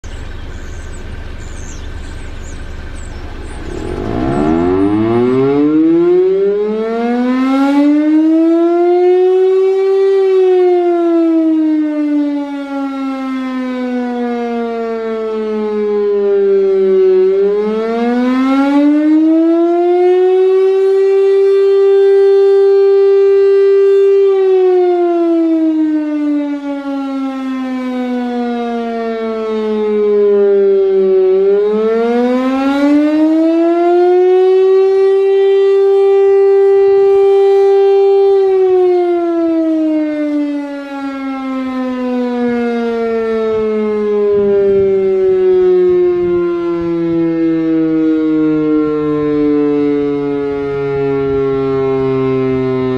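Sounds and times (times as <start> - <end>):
siren winding up and down: 2.4 - 52.9.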